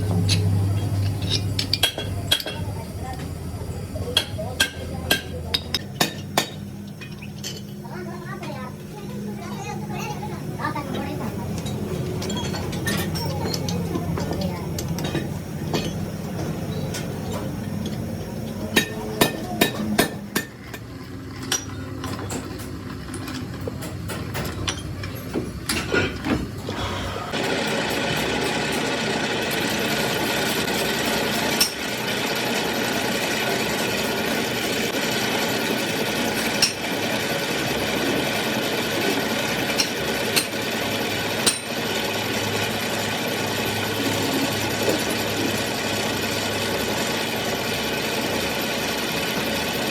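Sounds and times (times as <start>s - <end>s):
workshop machine running: 0.0s - 49.9s.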